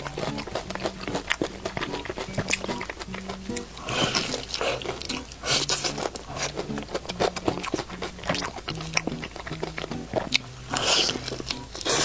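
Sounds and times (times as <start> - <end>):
crunchy biting and chewing: 0.0 - 12.0
soft background music: 0.0 - 12.0.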